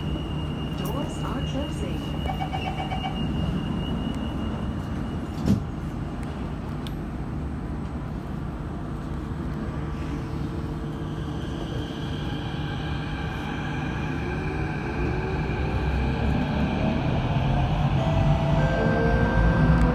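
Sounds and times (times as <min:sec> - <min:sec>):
metro train rumble and hum: 0:00.0 - 0:19.9.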